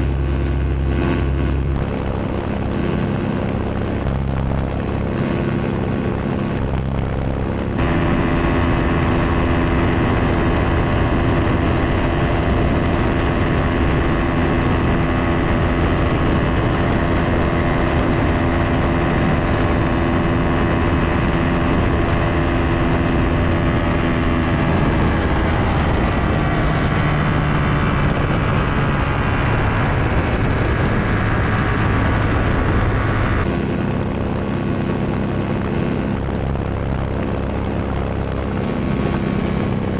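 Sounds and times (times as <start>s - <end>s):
ultralight engine and propeller: 0.0s - 39.9s.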